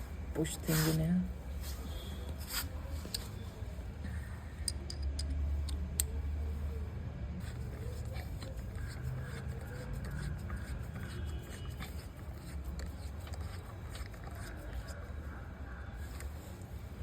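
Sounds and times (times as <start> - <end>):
light scraping of brake pads: 0.7 - 5.3, 7.4 - 17.0.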